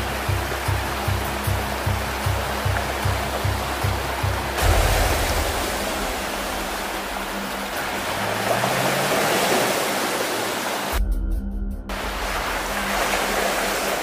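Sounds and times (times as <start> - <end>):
background music with low beat: 0.0 - 8.8, 11.0 - 14.0
creek water splashing: 0.0 - 11.0, 11.9 - 14.0.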